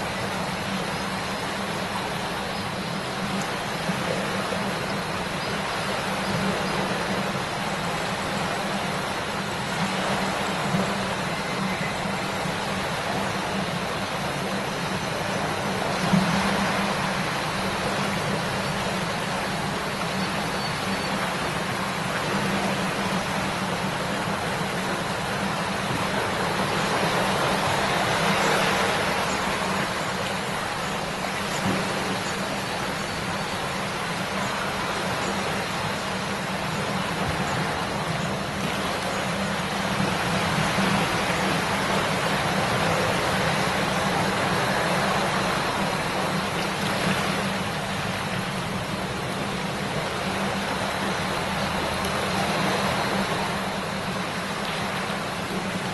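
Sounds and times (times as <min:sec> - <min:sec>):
river water babbling over stones: 0:00.0 - 0:55.9.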